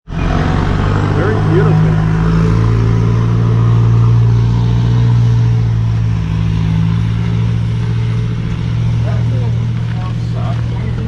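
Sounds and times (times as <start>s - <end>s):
engine droning steadily: 0.1s - 11.0s.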